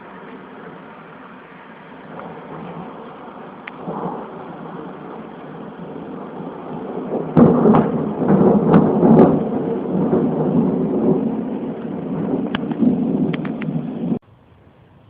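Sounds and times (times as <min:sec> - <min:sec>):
thunder crack and rumble: 0:00.0 - 0:14.2
steady hiss: 0:00.0 - 0:15.0.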